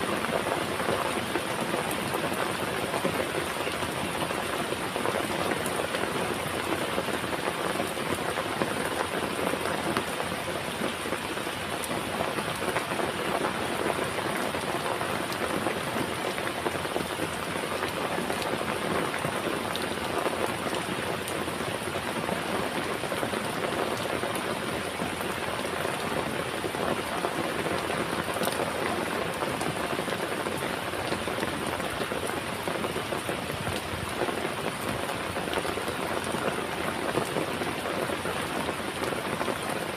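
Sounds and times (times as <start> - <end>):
heavy rain falling: 0.0 - 39.9
raindrop patter: 0.0 - 39.9.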